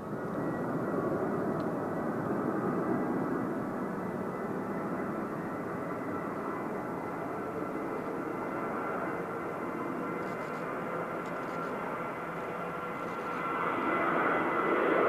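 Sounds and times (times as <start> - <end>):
jet engine rush: 0.0 - 15.0
jet engine whine: 0.0 - 15.0.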